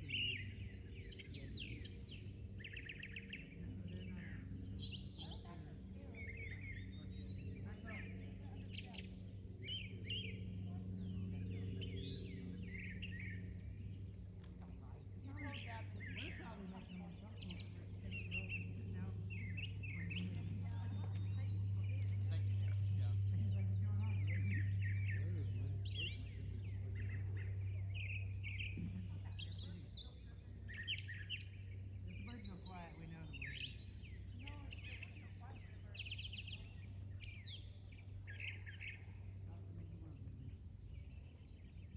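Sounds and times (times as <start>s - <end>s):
birds chirping: 0.0s - 41.9s
steady low hum: 0.0s - 41.9s.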